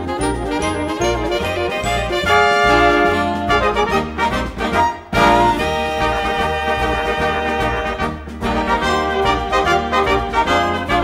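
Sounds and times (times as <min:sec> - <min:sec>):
music with steady bass beat: 0:00.0 - 0:11.0.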